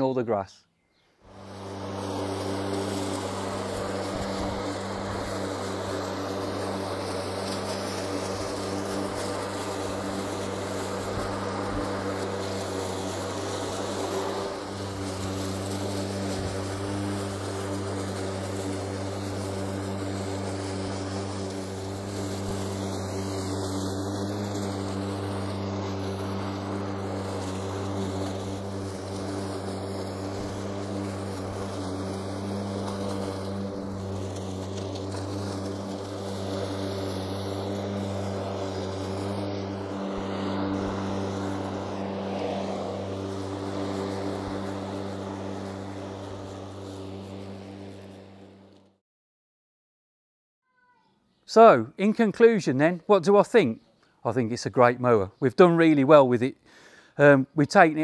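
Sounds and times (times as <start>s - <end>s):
lawn mower whirring: 0.9s - 49.0s, 51.5s - 58.0s.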